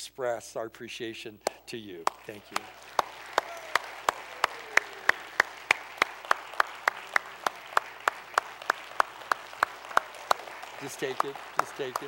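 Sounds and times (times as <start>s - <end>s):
person clapping: 1.4s - 12.0s
crowd applause: 2.0s - 12.0s.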